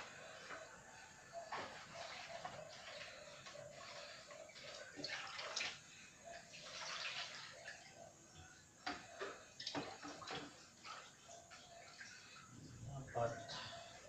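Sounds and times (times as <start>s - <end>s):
water splashing in a bucket: 1.5s - 8.0s, 8.9s - 13.9s.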